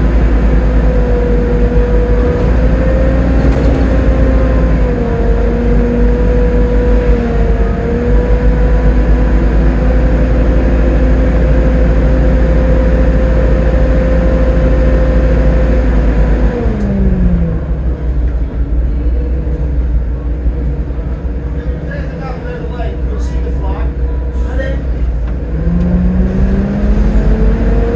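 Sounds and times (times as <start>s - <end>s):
bus diesel engine rumble: 0.0s - 27.9s
bus driveline whine: 0.0s - 27.9s.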